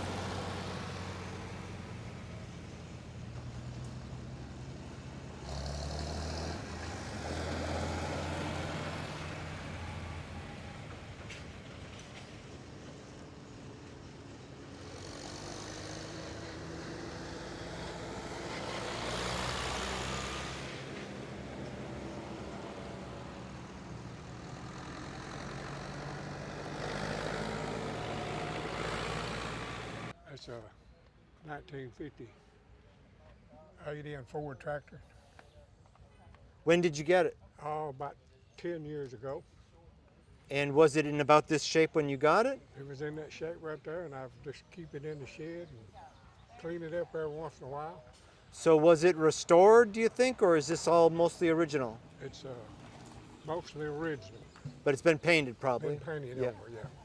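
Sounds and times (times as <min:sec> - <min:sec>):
tractor engines driving past: 0:00.0 - 0:30.2, 0:35.0 - 0:37.4, 0:39.4 - 0:43.6, 0:47.3 - 0:57.0.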